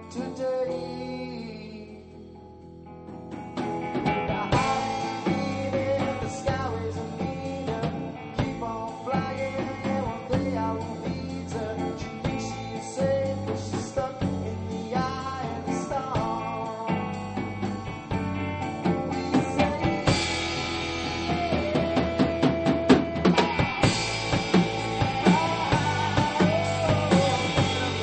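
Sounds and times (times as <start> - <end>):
bass guitar: 0.0 - 28.0
drums: 0.0 - 28.0
electric guitar: 0.0 - 28.0.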